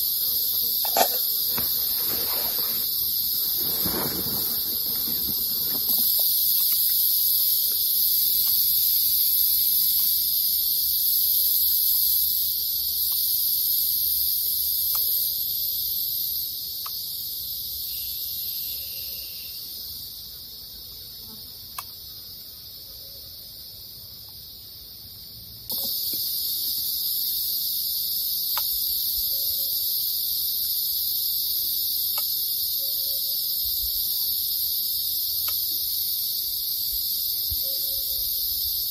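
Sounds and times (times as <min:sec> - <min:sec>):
forest insects chorus: 0:00.0 - 0:38.9.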